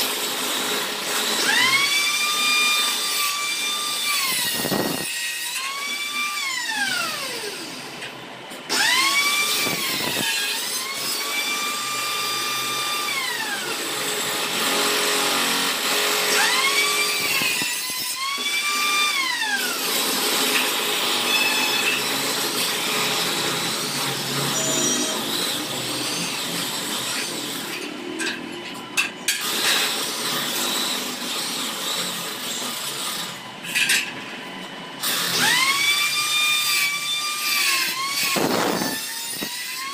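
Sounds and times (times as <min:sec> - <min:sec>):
angle grinder motor whining: 0:00.0 - 0:39.9.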